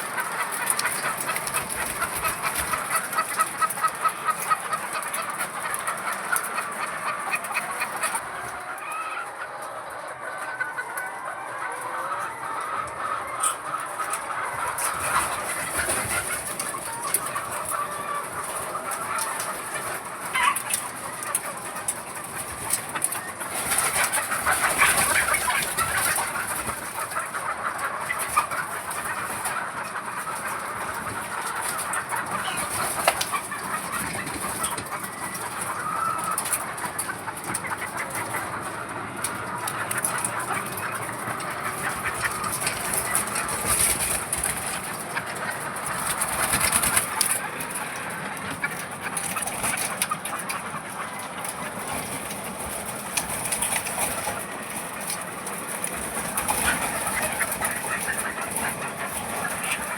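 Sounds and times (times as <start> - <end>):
hens clucking and calling: 0.0 - 59.9.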